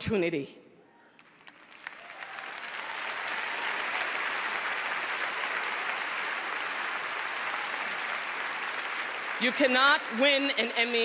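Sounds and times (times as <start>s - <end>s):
large audience applauding: 1.1s - 11.0s.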